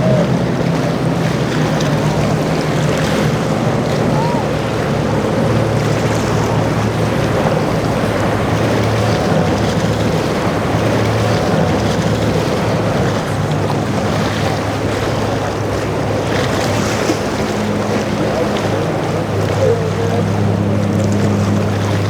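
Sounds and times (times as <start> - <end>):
boat engines running: 0.0 - 22.0
waves washing: 0.0 - 22.0
wind buffeting microphone: 0.0 - 22.0.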